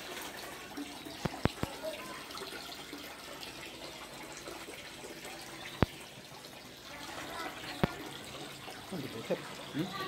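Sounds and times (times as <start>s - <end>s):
running water trickling: 0.0s - 10.0s.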